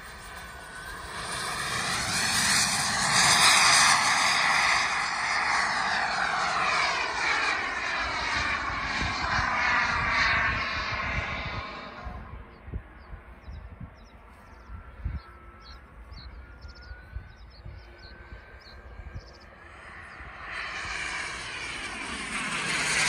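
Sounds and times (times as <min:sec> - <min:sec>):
model jet turbine whine: 0:00.0 - 0:23.0.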